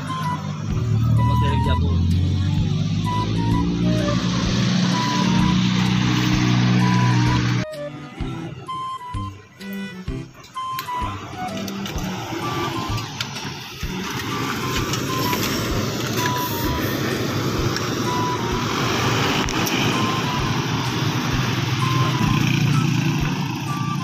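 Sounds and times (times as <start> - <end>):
vehicle passing close: 0.0 - 7.6, 10.8 - 24.0
background music melody: 0.0 - 24.0
road traffic passing: 0.0 - 24.0.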